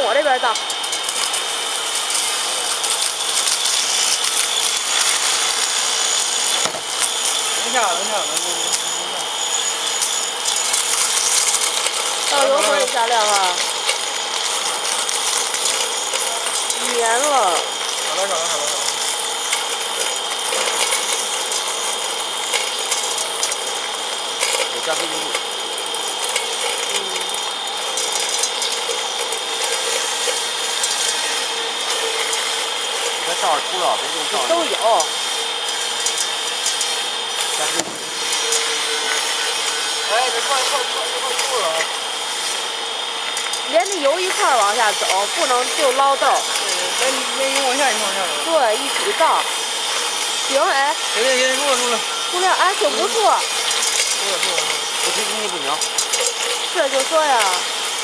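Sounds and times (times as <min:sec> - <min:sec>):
coffee beans crushed crackling: 0:00.0 - 0:58.0
motor whine: 0:00.0 - 0:58.0.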